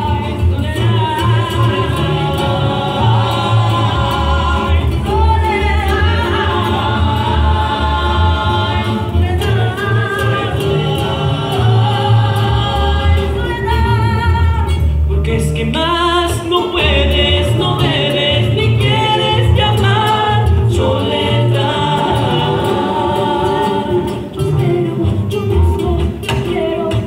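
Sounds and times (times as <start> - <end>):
voices singing in harmony: 0.0 - 14.8, 15.6 - 27.0
deep bass notes: 0.0 - 26.9
strummed guitars: 0.0 - 27.0
woman singing: 0.0 - 27.0.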